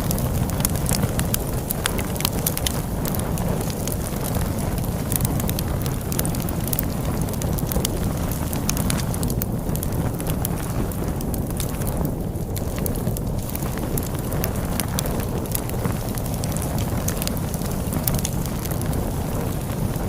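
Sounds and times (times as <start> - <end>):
storm wind rumbling: 0.0 - 20.0
wood fire crackling and popping: 0.0 - 20.0.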